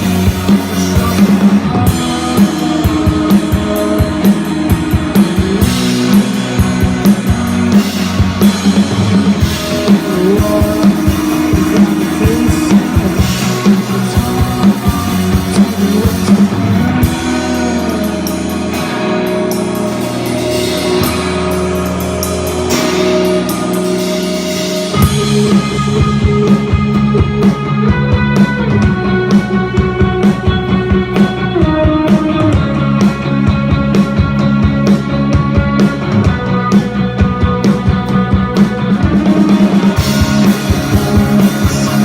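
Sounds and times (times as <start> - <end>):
drum kit: 0.0 - 42.0
electric guitar: 0.0 - 42.0.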